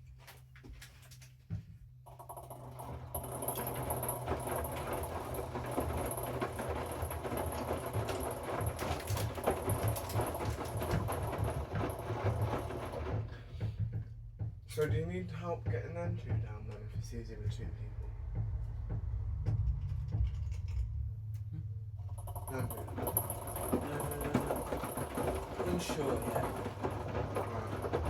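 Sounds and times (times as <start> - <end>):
washing machine low hum: 0.0 - 28.0
drum tumbling wet load: 2.7 - 20.5, 22.1 - 28.0.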